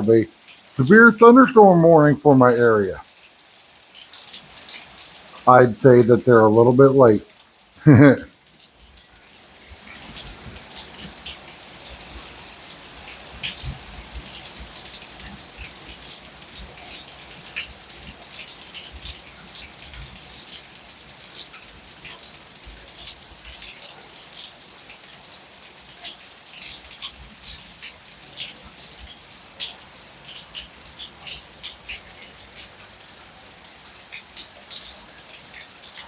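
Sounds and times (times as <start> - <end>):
rain drops on hard surface: 0.0 - 36.0.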